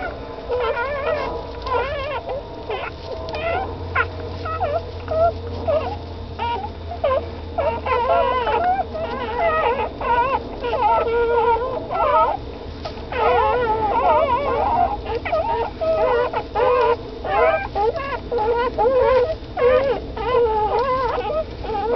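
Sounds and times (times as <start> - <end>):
puppies whimpering and squeaking: 0.0 - 21.9.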